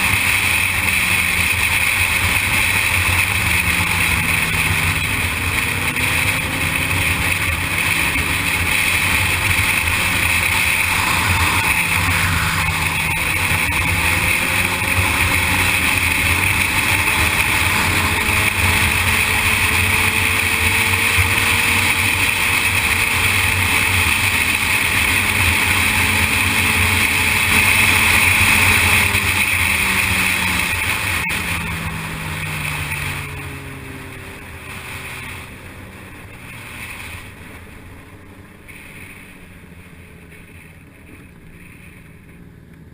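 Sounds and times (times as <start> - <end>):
motorcycle engine running: 0.0 - 42.9
steady rushing noise: 0.0 - 42.9.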